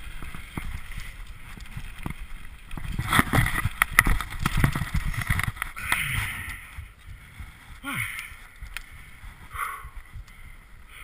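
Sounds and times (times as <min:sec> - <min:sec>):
bike rattling over bumps: 0:00.0 - 0:11.0.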